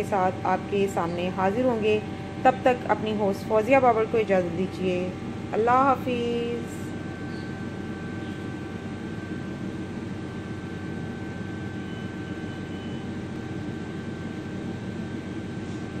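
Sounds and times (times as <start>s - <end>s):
faint steady whine: 0.0s - 16.0s
machinery droning: 0.0s - 16.0s.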